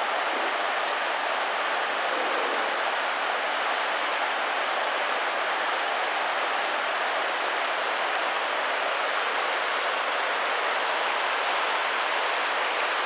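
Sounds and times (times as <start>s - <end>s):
river water over a weir: 0.0s - 13.0s.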